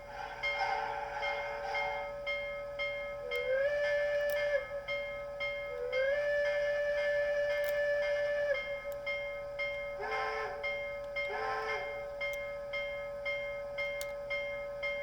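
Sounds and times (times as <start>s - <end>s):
model steam locomotive chuffs: 0.0s - 15.0s.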